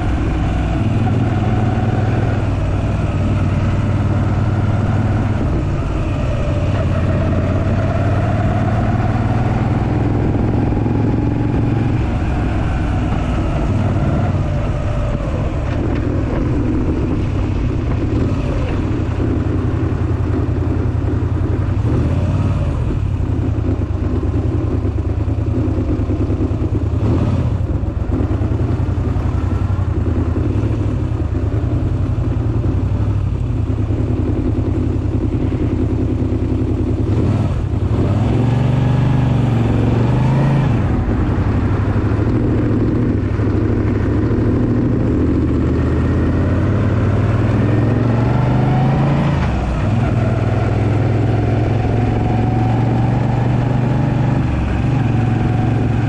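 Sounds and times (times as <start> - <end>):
motorcycle engine under load: 0.0 - 56.0.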